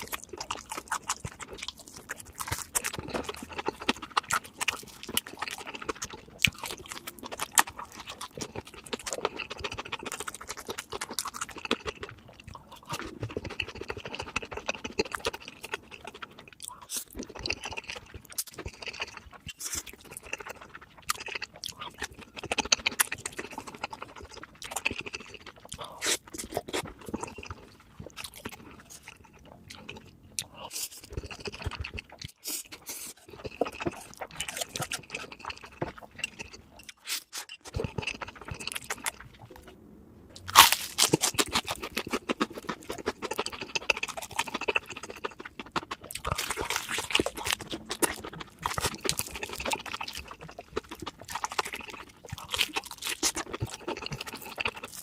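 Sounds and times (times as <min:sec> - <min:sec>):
crunching and chewing fried food: 0:00.0 - 0:55.0.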